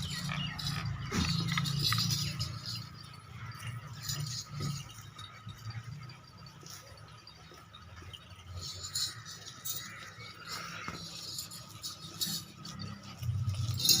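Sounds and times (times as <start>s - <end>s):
metallic clinking and rattling: 0.0s - 14.0s.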